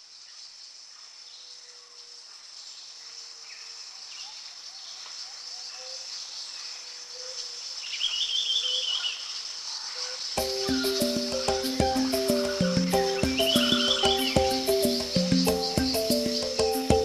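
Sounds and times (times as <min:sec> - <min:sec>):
chorus of crickets: 0:00.0 - 0:17.0.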